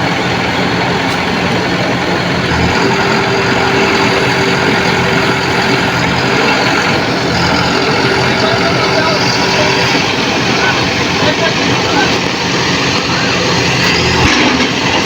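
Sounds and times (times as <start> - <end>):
heavy diesel engine running: 0.0 - 15.0
steady whine: 0.0 - 15.0.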